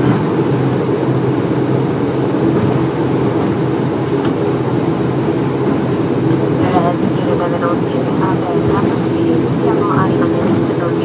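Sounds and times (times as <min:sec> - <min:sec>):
turboprop engine drone: 0:00.0 - 0:11.0.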